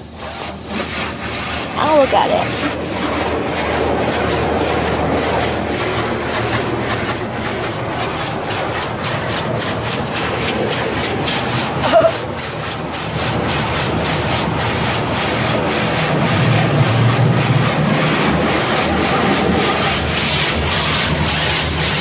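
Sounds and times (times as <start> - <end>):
car wash spraying: 0.0 - 22.0.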